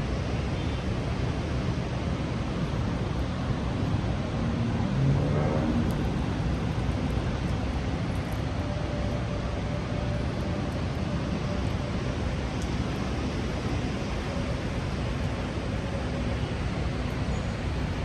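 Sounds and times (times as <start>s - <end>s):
faint city rumble: 0.0s - 18.0s
heavy rain: 0.0s - 18.0s.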